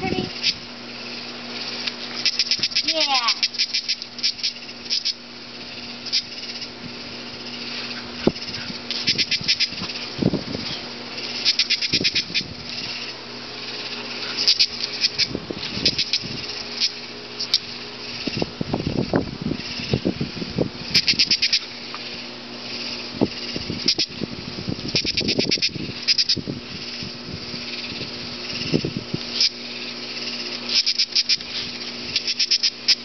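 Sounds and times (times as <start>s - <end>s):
katydid clicking pulses: 0.0s - 33.0s.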